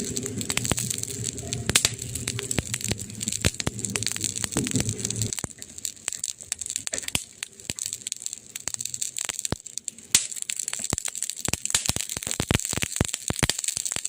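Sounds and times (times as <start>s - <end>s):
burning wood crackling and popping: 0.0s - 14.0s
soft steady fire hiss: 0.0s - 14.0s.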